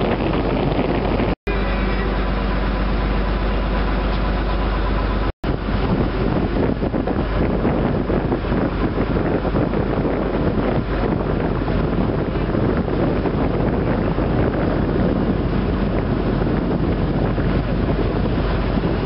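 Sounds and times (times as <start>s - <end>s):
wind blowing across microphone: 0.0s - 1.9s, 5.2s - 19.0s
boat engine droning: 0.0s - 19.0s.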